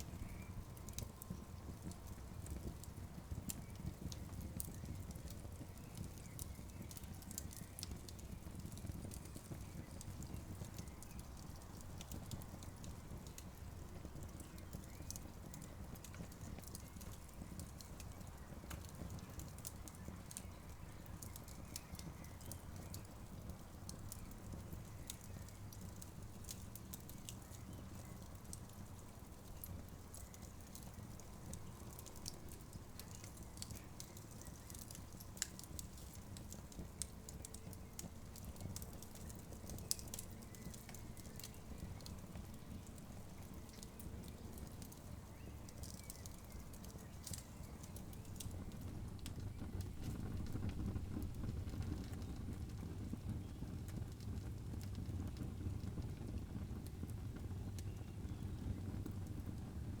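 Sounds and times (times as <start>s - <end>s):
campfire crackling and popping: 0.0s - 60.0s.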